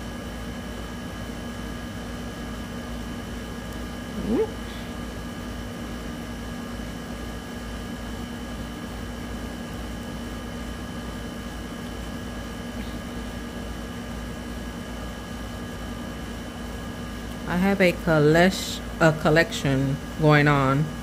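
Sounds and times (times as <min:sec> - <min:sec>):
appliance hum and hiss: 0:00.0 - 0:21.0.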